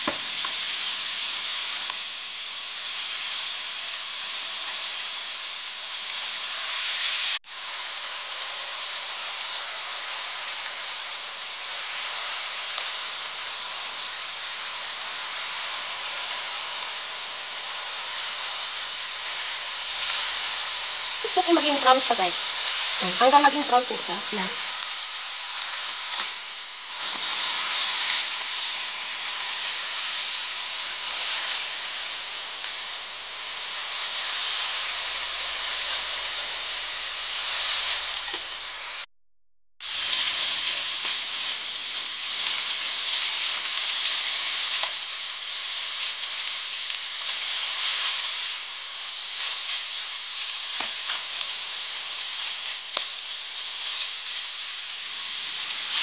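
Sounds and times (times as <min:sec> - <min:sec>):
meat sizzling in hot fat: 0:00.0 - 0:39.1, 0:39.8 - 0:56.0.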